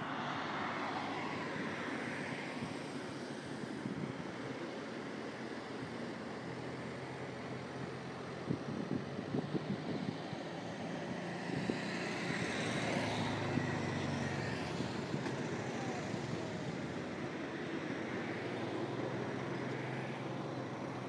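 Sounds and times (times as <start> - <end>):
background traffic noise: 0.0 - 21.0.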